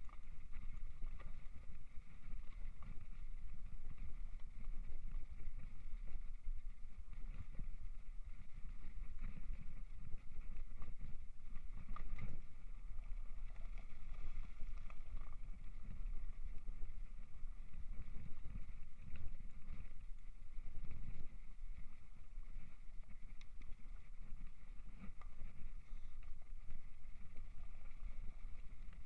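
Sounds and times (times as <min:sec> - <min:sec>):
bike tyres rumbling on trail: 0:00.0 - 0:29.0.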